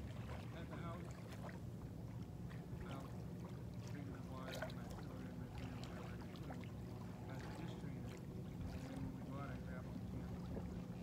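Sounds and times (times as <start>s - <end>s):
low steady hum: 0.0s - 11.0s
small waves lapping: 0.0s - 11.0s.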